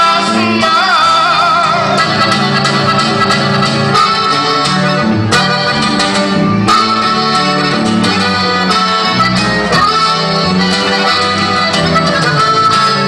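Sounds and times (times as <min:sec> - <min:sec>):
accordion melody: 0:00.0 - 0:13.0
electric bass: 0:00.0 - 0:13.0
guitar: 0:00.0 - 0:13.0.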